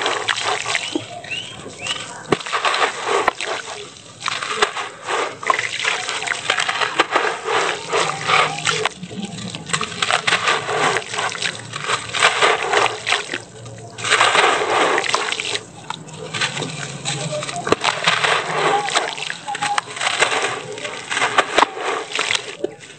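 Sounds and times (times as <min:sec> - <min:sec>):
cement block crunching by hand: 0:00.0 - 0:22.9
crumbs splashing into water: 0:00.0 - 0:22.9.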